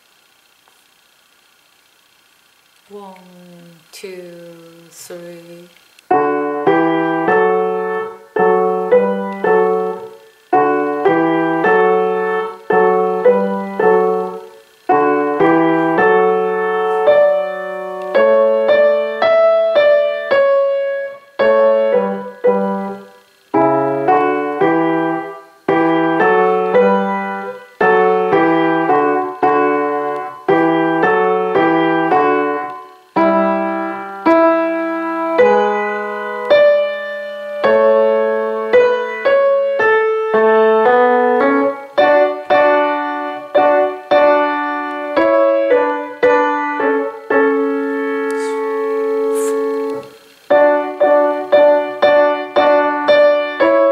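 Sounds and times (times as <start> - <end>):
grand piano playing: 6.1 - 23.0, 23.6 - 53.9.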